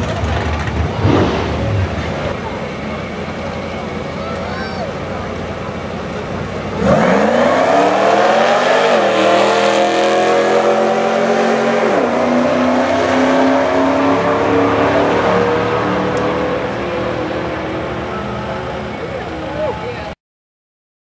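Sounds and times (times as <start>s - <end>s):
truck engine accelerating hard: 0.0s - 20.2s.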